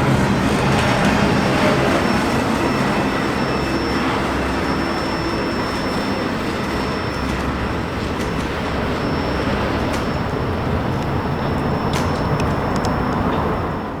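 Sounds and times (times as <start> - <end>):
train wheels rolling on rails: 0.0 - 14.0.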